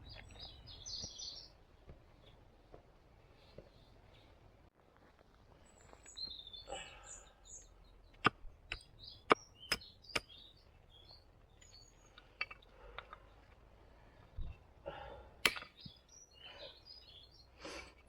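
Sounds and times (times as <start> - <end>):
small birds chirping: 0.0 - 2.4, 5.4 - 18.0.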